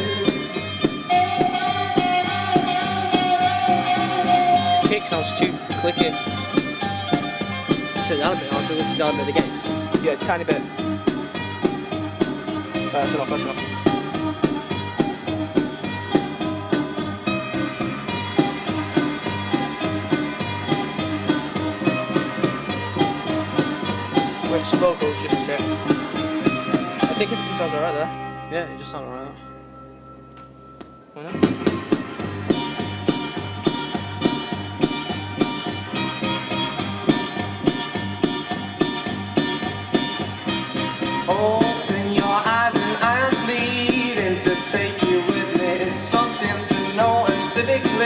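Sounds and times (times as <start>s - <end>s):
drums keeping a steady beat: 0.0s - 29.0s, 30.8s - 48.0s
bass: 0.0s - 48.0s
instrumental rock music: 0.0s - 48.0s
sustained guitar chords: 0.0s - 48.0s.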